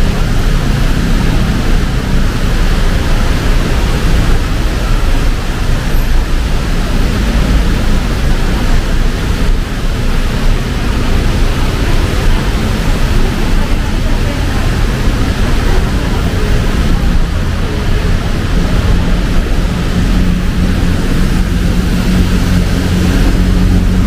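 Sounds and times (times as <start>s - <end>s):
heavy rain pouring: 0.0s - 24.0s
low rumble: 0.0s - 24.0s.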